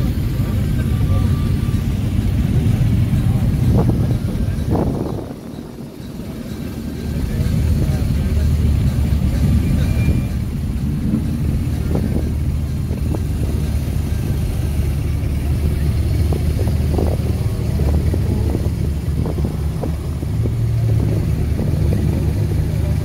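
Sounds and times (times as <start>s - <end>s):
sports car engines rumbling: 0.0s - 23.0s.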